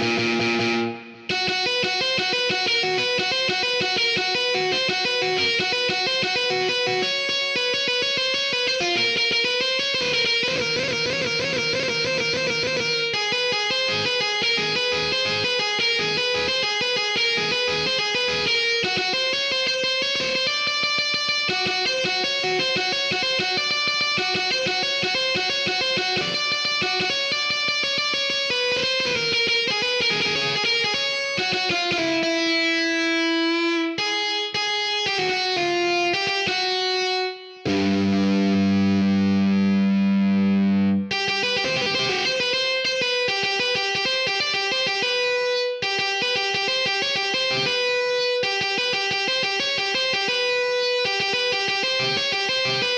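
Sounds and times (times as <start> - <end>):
electric guitar single notes: 0.0 - 52.9.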